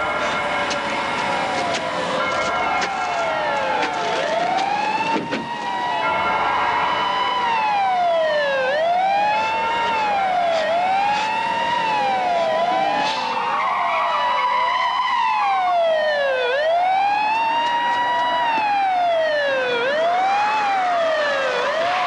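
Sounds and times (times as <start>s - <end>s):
police sirens wailing: 0.0s - 22.0s.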